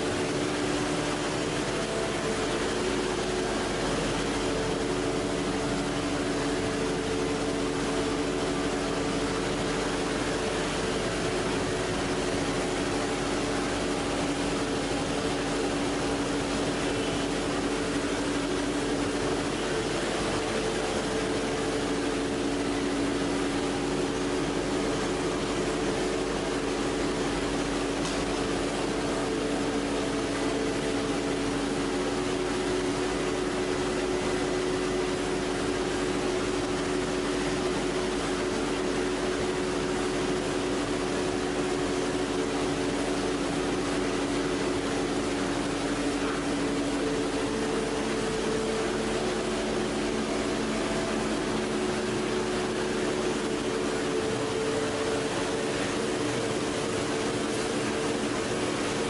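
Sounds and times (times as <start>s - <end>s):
machine hum with low tones: 0.0s - 59.0s.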